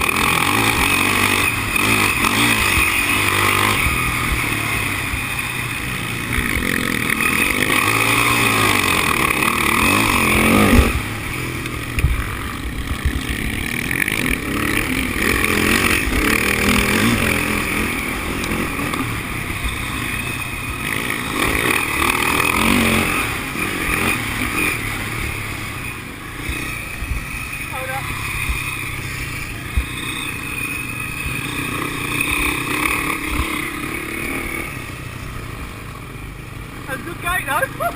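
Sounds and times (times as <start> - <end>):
motorcycle engines revving and racing: 0.0 - 37.9.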